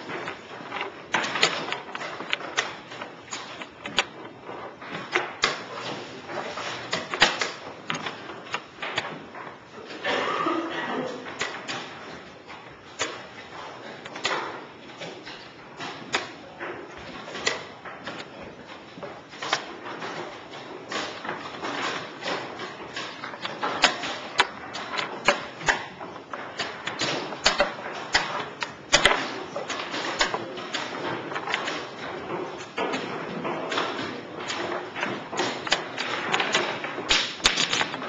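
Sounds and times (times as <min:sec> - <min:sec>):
chess pieces clicking on board: 0:00.0 - 0:09.5, 0:13.0 - 0:38.0.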